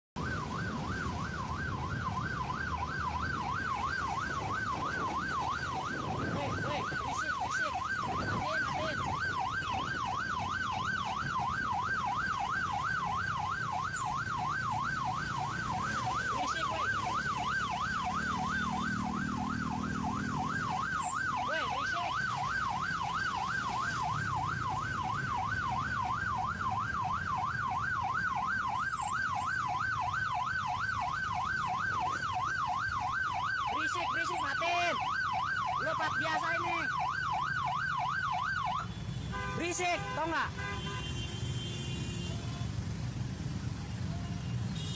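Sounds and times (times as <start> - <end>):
electronic siren yelping: 0.2 - 39.0.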